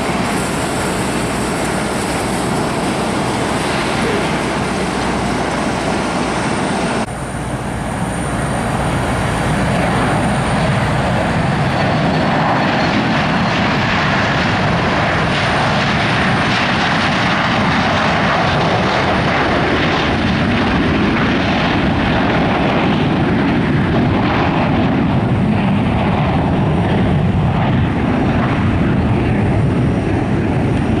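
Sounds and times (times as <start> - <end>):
jet engines at takeoff power: 0.0 - 31.0.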